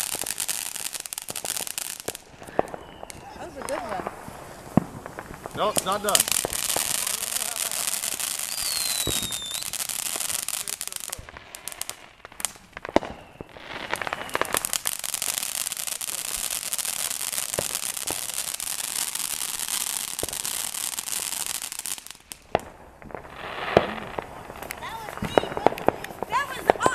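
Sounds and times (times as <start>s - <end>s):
firework crackling: 0.0s - 26.9s
firework sharp pops: 0.0s - 26.9s.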